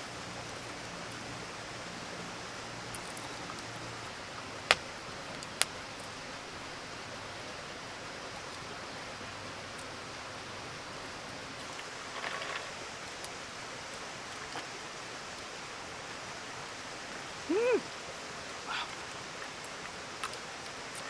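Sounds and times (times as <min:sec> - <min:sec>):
campfire hissing and crackling: 0:00.0 - 0:21.0.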